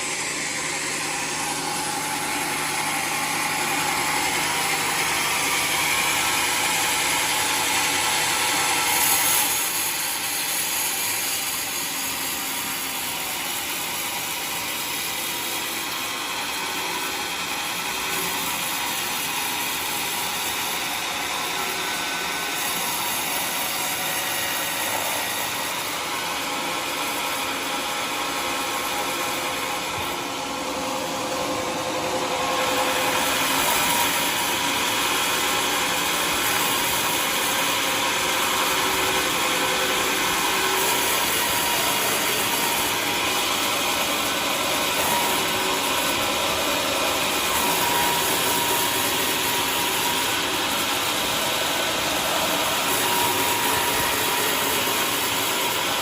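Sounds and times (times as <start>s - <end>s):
sawmill sawing log: 0.0s - 56.0s.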